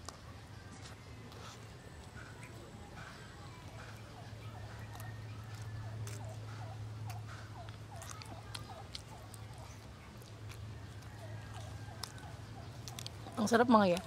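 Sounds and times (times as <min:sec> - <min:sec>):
person chewing with mouth clicks: 0:00.0 - 0:14.0
steady low hum: 0:00.0 - 0:14.0.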